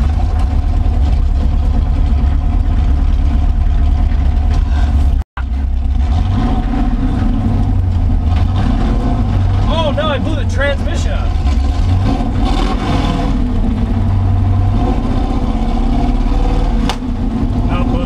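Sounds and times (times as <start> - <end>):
truck engine rumble from cab: 0.0 - 18.0.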